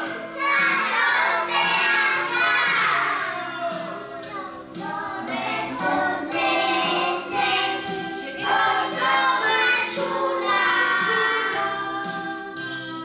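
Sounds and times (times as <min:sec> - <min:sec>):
children singing together: 0:00.0 - 0:12.8.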